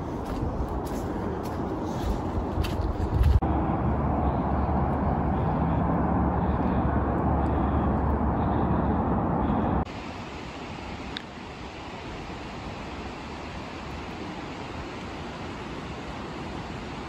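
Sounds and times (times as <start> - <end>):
distant road traffic roar: 0.0 - 17.0
low hum: 0.0 - 17.0.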